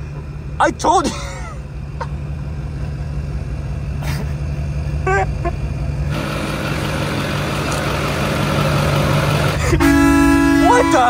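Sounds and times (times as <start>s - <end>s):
truck engine running at low throttle: 0.0s - 11.0s.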